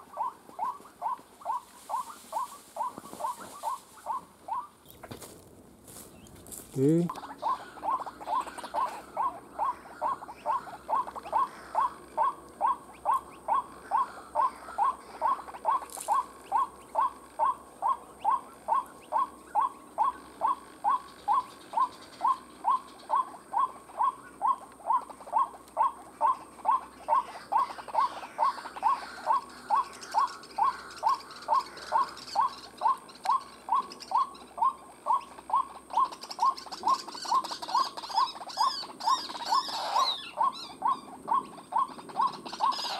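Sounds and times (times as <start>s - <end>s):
waterhen call: 7.2s - 42.9s.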